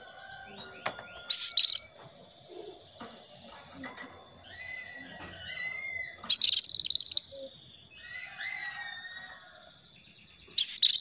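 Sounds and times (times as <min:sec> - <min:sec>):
canary chirps and trills: 0:00.0 - 0:11.0.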